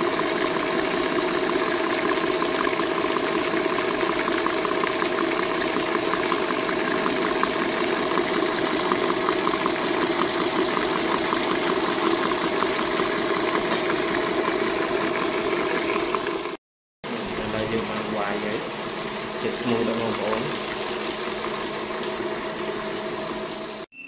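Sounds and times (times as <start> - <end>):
whisk ticking in bowl: 0.0 - 16.6, 17.4 - 23.8
stand mixer motor hum: 0.0 - 23.9.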